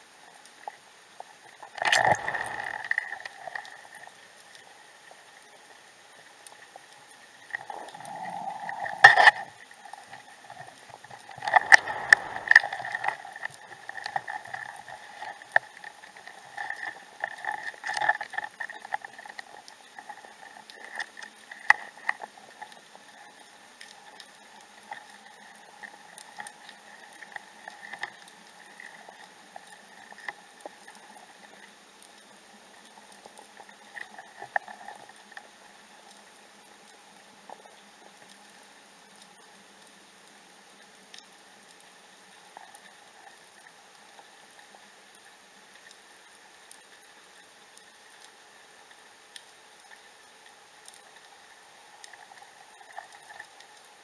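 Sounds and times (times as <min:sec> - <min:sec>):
underwater bubbling and crackling: 0:00.0 - 0:54.0.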